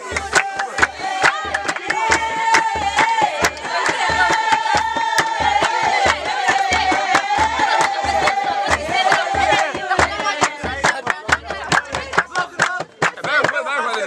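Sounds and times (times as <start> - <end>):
hand drum beating: 0.0 - 13.7
group chanting and singing: 0.0 - 14.0
hand claps: 0.0 - 14.0.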